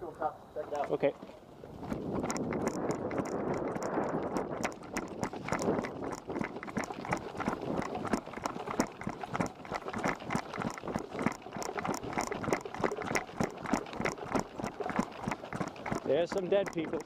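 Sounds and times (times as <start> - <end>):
running footsteps: 0.7 - 17.0.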